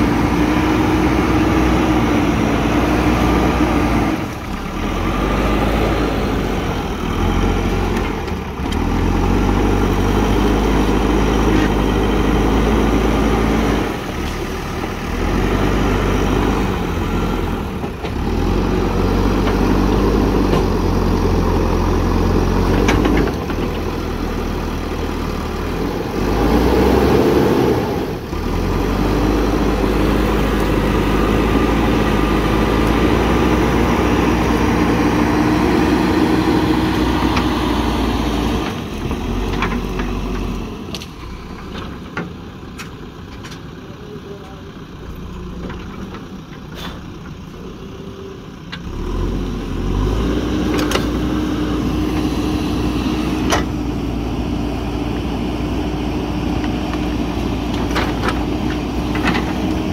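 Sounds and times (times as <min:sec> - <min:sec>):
loader bucket pushing brush: 0:00.0 - 0:43.6, 0:45.1 - 0:47.7, 0:48.7 - 0:59.9
diesel engine working under load: 0:00.0 - 0:59.9.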